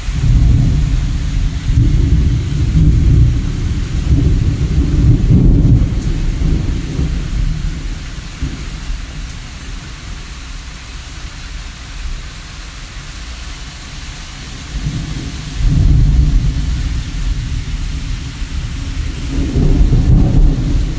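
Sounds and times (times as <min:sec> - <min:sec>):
thunder rumbling: 0:00.0 - 0:10.5, 0:14.4 - 0:20.9
steady rain: 0:00.0 - 0:20.9.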